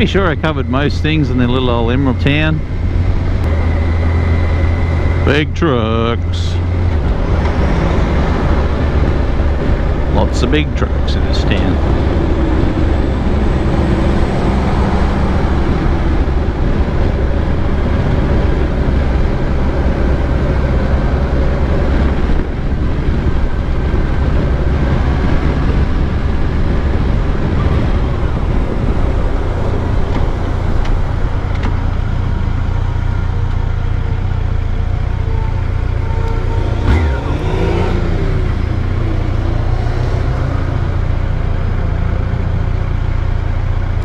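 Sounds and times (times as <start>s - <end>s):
wind noise: 0.0s - 42.2s
motorcycle engine running: 0.0s - 44.0s
road noise: 0.0s - 44.0s.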